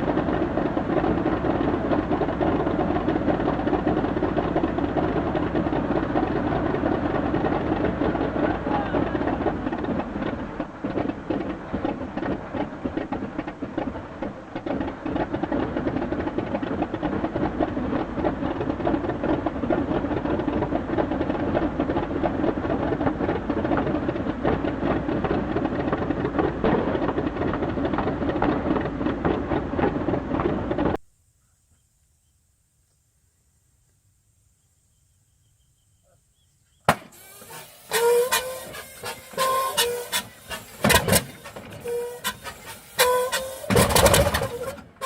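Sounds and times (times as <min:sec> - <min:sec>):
helicopter engine running: 0:00.0 - 0:31.0, 0:36.9 - 0:45.0
helicopter rotor chopping: 0:00.0 - 0:31.0, 0:36.9 - 0:45.0.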